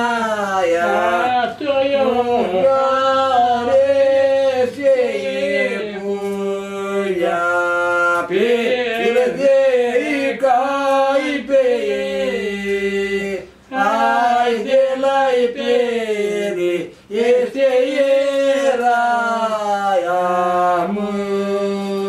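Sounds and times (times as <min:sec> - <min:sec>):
men singing unaccompanied: 0:00.0 - 0:22.0.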